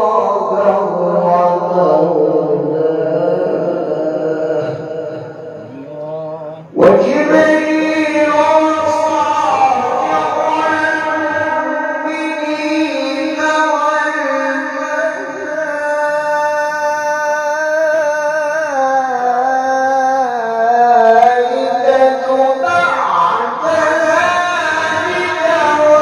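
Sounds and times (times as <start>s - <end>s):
man reciting melodically: 0.0s - 26.0s.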